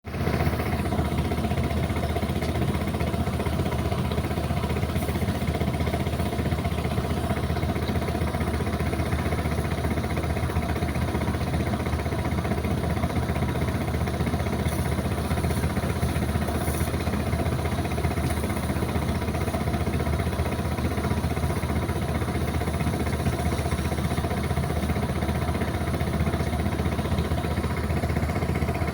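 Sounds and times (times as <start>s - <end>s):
engine idling: 0.1s - 28.9s.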